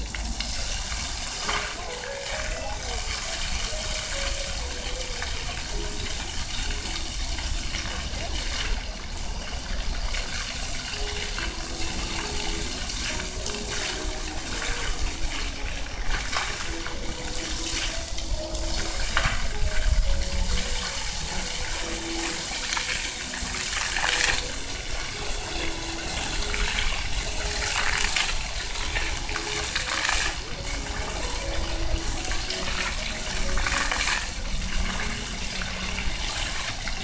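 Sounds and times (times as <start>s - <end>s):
fountain jets splashing on paving: 0.0s - 37.0s.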